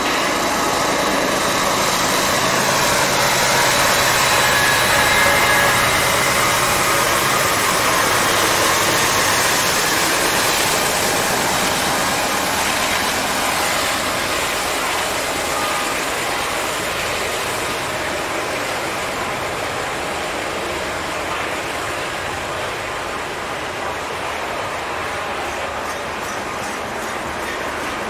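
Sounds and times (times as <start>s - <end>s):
diesel locomotive engine: 0.0s - 28.0s
train wheels on rail: 0.0s - 28.0s.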